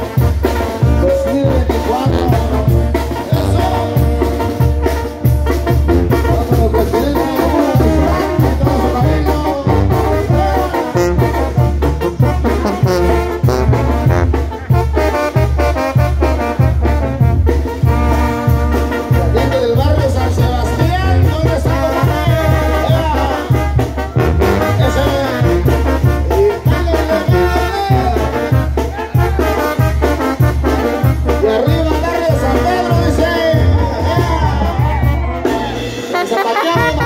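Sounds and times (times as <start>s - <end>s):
brass band playing: 0.0s - 37.0s.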